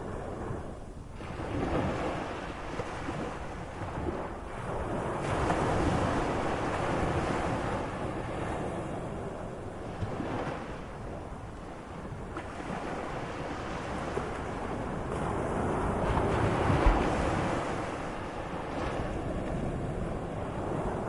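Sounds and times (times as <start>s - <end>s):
sea waves breaking: 0.0s - 21.0s.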